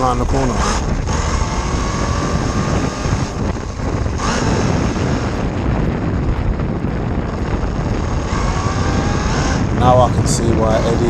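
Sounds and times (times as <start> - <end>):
electric motor whine: 0.0 - 5.8, 7.2 - 11.0
wind rumbling on microphone: 0.0 - 11.0.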